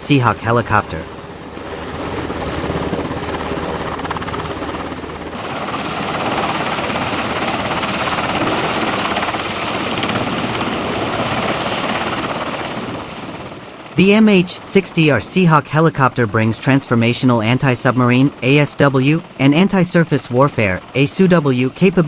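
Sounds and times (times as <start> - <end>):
helicopter rotor and engine: 0.0 - 22.0.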